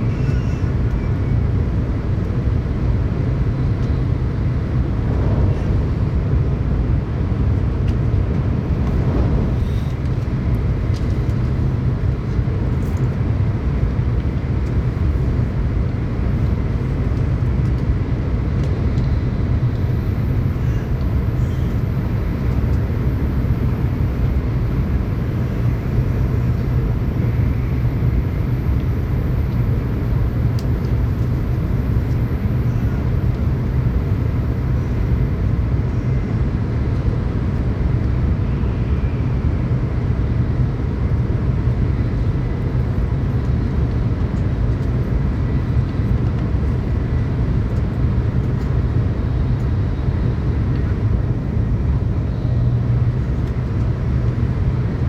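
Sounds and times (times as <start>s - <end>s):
train rumbling from inside: 0.0s - 55.0s.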